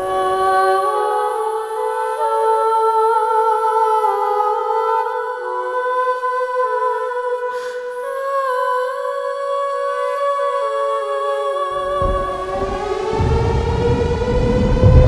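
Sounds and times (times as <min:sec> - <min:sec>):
wordless humming voices: 0:00.0 - 0:15.0.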